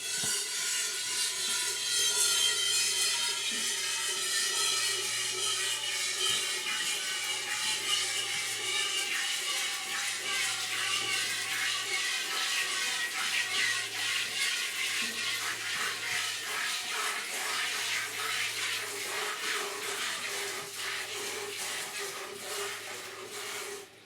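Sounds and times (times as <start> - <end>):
milk squirting into metal bucket: 0.1 - 24.0.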